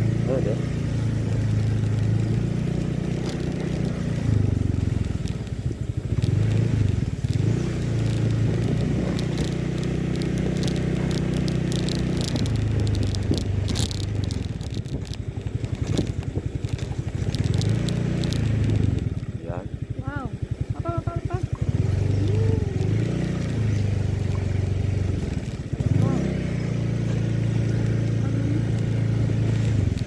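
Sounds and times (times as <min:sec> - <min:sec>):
small motorcycle engine running: 0:00.0 - 0:30.0
tyres crackling on gravel: 0:00.0 - 0:30.0.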